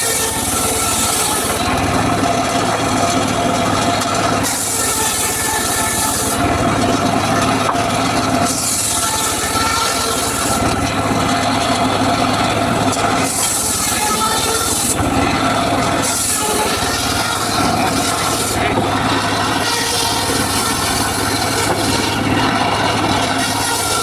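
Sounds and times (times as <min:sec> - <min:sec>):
circular saw cutting wood: 0:00.0 - 0:24.0.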